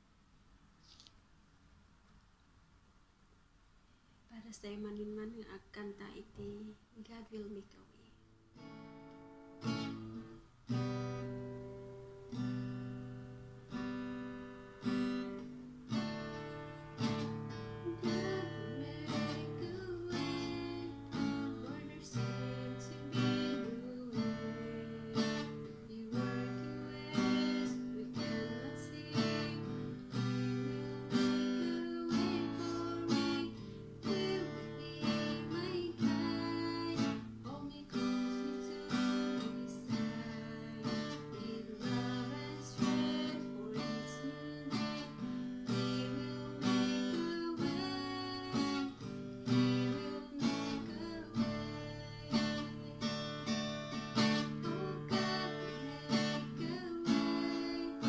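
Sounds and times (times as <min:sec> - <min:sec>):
acoustic guitar strumming: 0:08.5 - 0:58.0.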